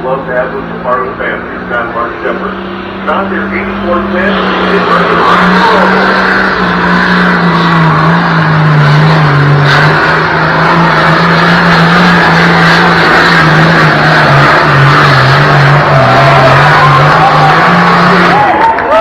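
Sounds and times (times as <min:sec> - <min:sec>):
tractor diesel engine at high revs: 0:00.0 - 0:19.0.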